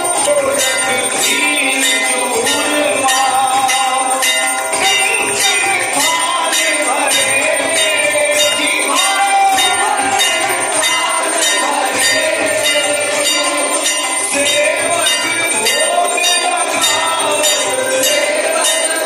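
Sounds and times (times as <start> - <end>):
temple bells ringing: 0.0 - 19.0.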